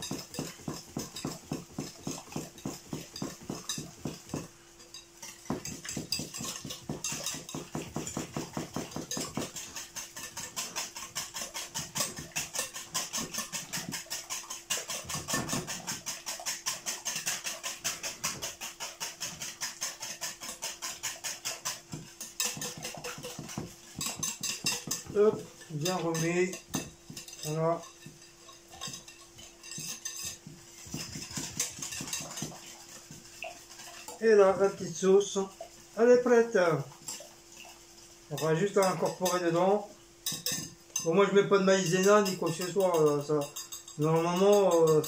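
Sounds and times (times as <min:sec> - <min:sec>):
wire whisk beating in a bowl: 0:00.0 - 0:45.0.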